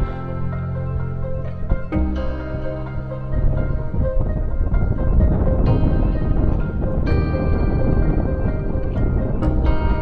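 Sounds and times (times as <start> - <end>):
music with sustained chords: 0.0 - 10.0
rough low rumble: 0.0 - 10.0.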